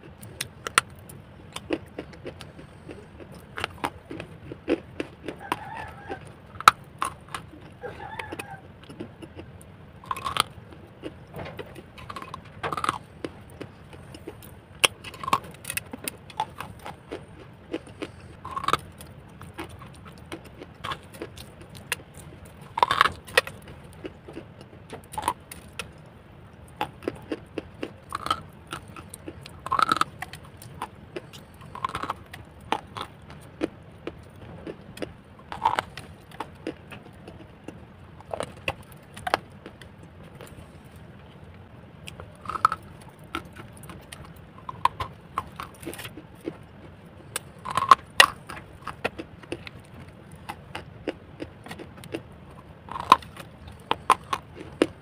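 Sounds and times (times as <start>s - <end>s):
chewing crunchy clay: 0.0s - 55.0s.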